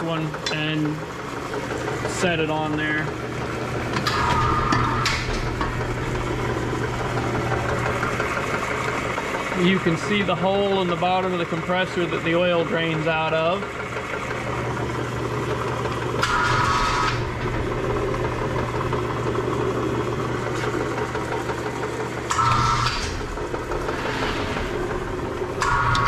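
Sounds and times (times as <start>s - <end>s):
crane hoist motor whining: 0.0s - 26.0s
steady low hum: 0.0s - 26.0s.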